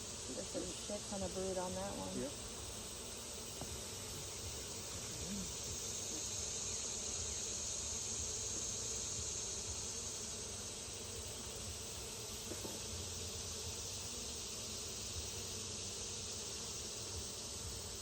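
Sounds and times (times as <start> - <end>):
bees buzzing: 0.0 - 18.0
high-pitched insect drone: 0.0 - 18.0.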